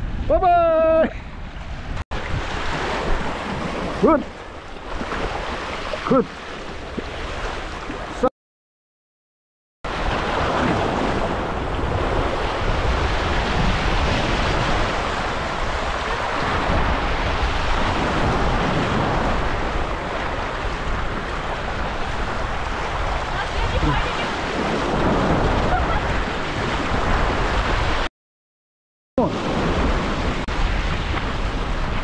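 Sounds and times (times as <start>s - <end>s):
wind rumbling on microphone: 0.0s - 8.2s, 9.9s - 28.1s, 29.2s - 32.0s.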